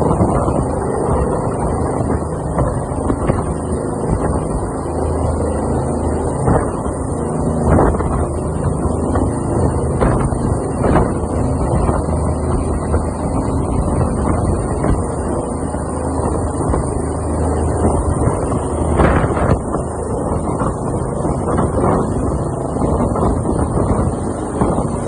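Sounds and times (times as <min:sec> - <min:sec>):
helicopter rotor drone: 0:00.0 - 0:25.0
wind buffeting microphone: 0:00.0 - 0:25.0.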